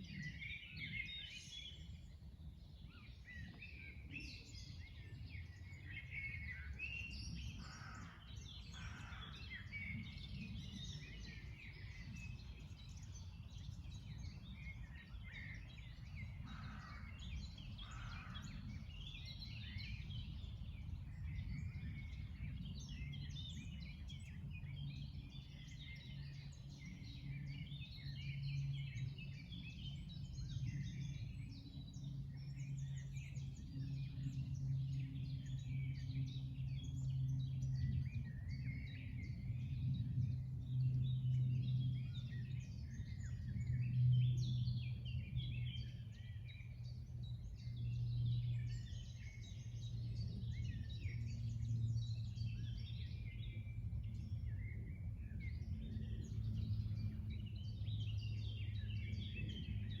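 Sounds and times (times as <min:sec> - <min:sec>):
songbirds chirping: 0:00.0 - 1:00.0
steady low hum: 0:07.6 - 1:00.0.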